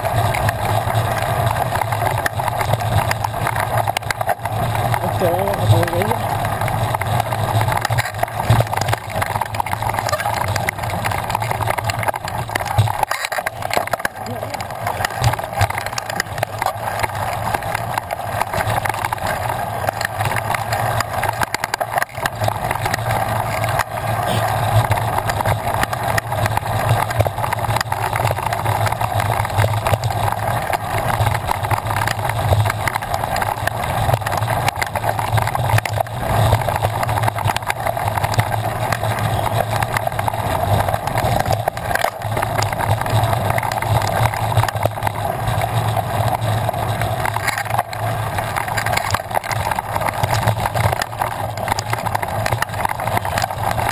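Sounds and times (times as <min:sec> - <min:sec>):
bike rattling and clicking: 0:00.0 - 0:53.9
bike tyres rumbling on gravel: 0:00.0 - 0:53.9.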